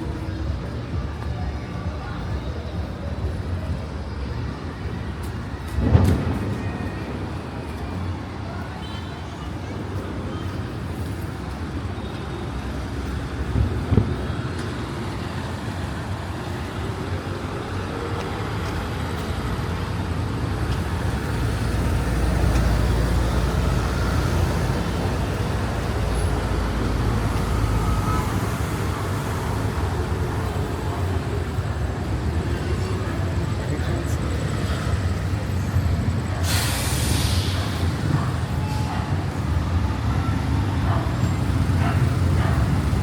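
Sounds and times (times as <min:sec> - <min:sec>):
street traffic hum: 0:00.0 - 0:43.0.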